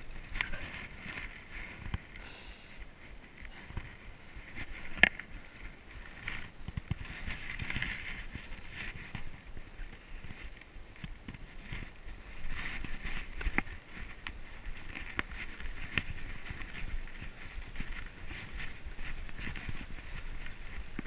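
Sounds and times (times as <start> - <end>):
bike rattling: 0.0 - 2.3, 2.9 - 21.0
bike tyres rumbling on dirt: 0.0 - 21.0.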